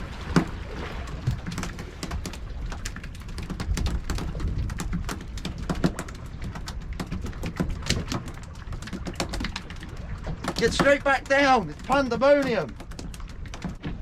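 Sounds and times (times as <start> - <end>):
fish flapping on deck: 0.0 - 14.0.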